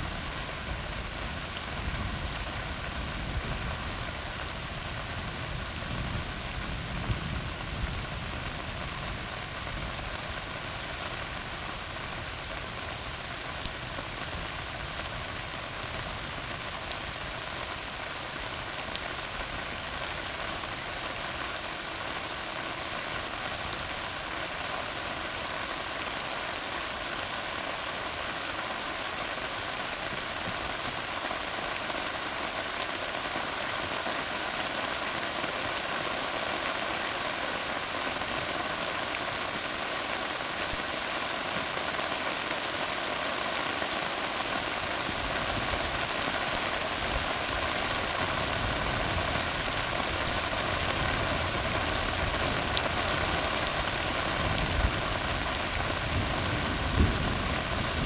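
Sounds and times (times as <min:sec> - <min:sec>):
rain on road: 0:00.0 - 0:58.0.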